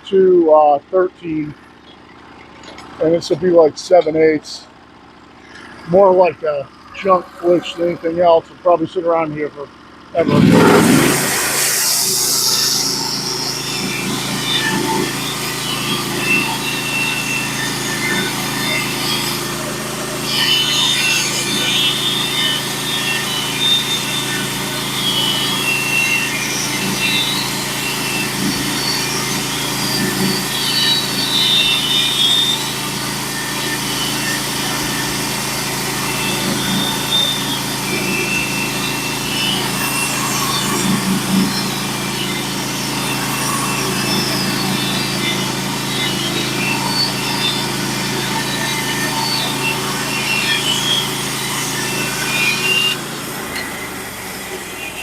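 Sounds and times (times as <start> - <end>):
saw blade whine in wood: 0.0 - 55.0
sawmill engine drone: 0.0 - 55.0.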